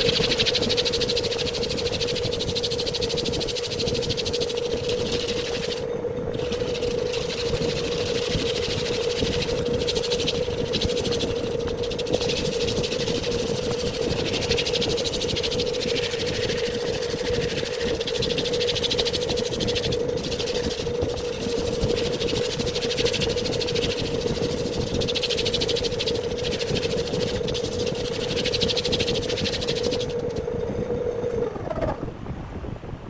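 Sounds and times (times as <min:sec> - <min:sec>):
wood lathe humming: 0:00.0 - 0:32.0
tool scraping spinning wood: 0:00.0 - 0:32.3.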